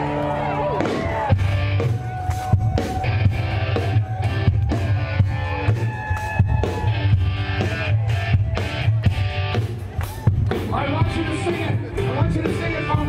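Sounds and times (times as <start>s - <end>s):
bass guitar: 0.0s - 13.0s
electric guitars: 0.0s - 13.0s
drum kit beat: 0.7s - 13.0s.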